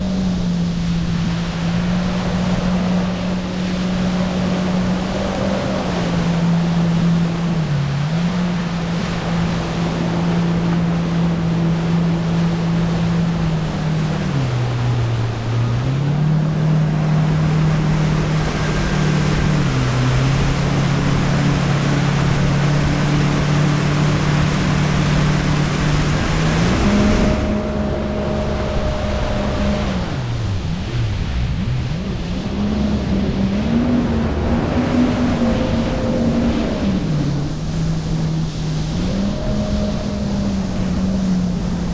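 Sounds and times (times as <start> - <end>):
jet ski engine drone: 0.0 - 41.9
water rushing: 0.0 - 41.9
wind: 0.0 - 41.9.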